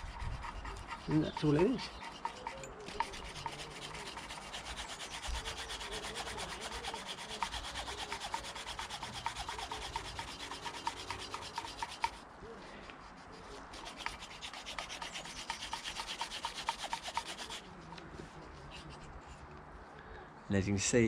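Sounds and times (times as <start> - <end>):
gritty back-and-forth rubbing: 0.0 - 19.6.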